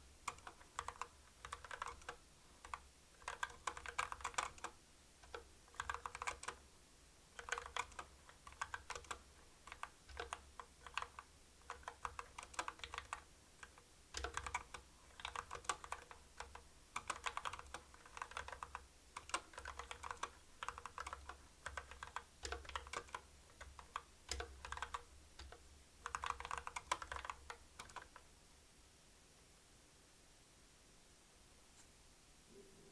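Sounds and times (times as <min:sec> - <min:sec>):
mechanical keyboard typing: 0:00.2 - 0:06.6, 0:07.4 - 0:28.3.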